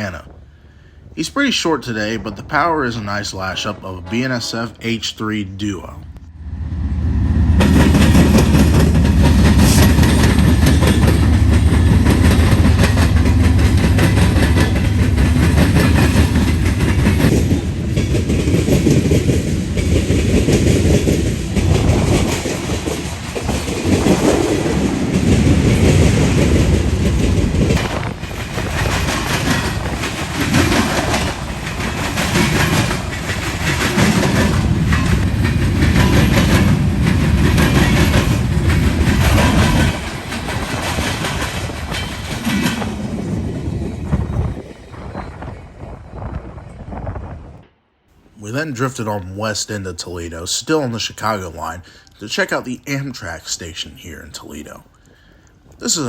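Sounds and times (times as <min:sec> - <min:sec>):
diesel locomotive engine hum: 0:00.0 - 0:49.0
train cars rumbling past: 0:00.0 - 0:49.5.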